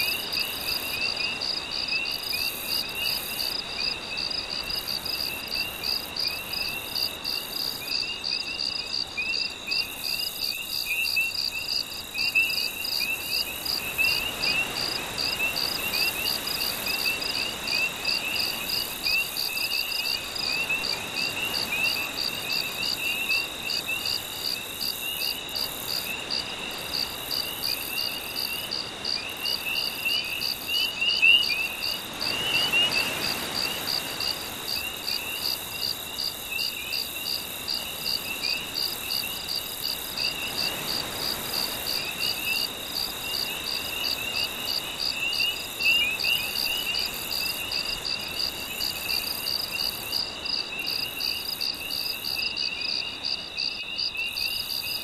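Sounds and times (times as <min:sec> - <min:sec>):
crickets pulsing chirp: 0:00.0 - 0:55.0.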